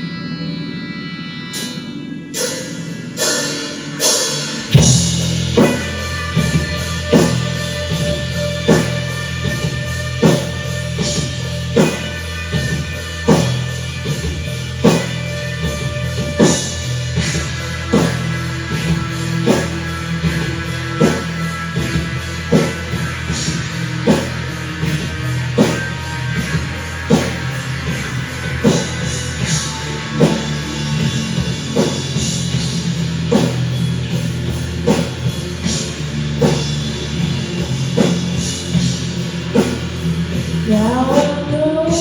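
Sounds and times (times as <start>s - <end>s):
bass guitar: 0.0s - 42.0s
live rock band: 0.0s - 42.0s
sustained guitar tones: 0.0s - 42.0s
drum strikes: 1.6s - 42.0s.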